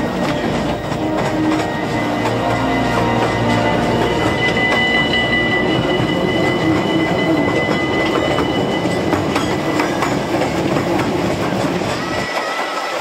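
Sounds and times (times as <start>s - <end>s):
high wheel squeal: 0.0s - 13.0s
ride wheels clacking on rail joints: 0.0s - 13.0s.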